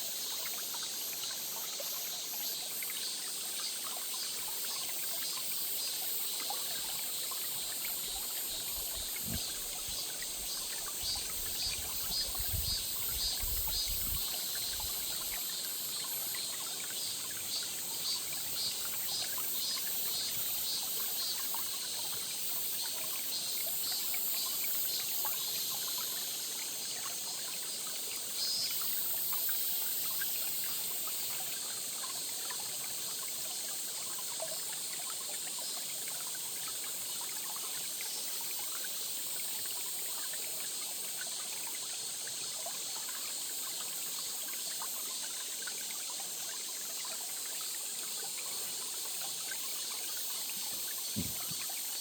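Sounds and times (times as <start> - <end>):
high insect drone: 0.0 - 52.0
stream trickling and burbling: 0.0 - 52.0.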